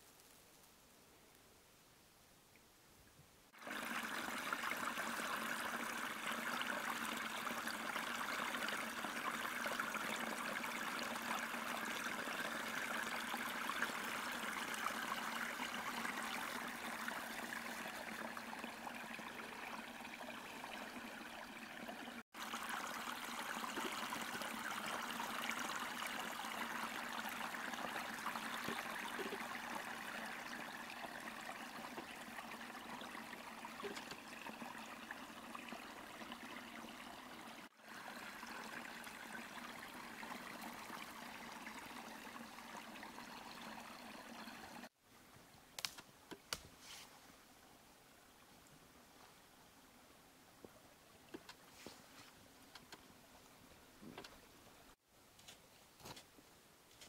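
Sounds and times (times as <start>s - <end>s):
stream trickling: 3.5s - 45.9s, 47.2s - 55.0s.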